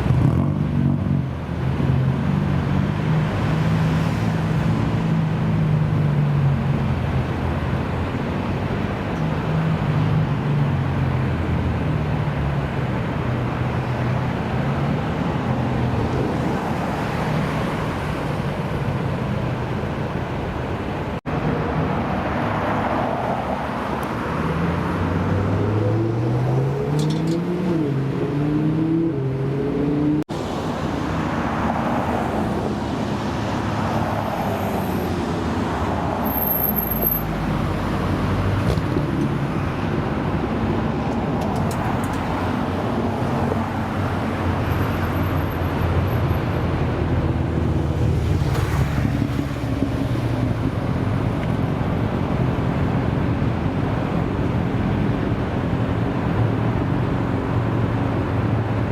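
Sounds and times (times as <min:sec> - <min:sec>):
traffic noise: 0:00.0 - 0:58.9.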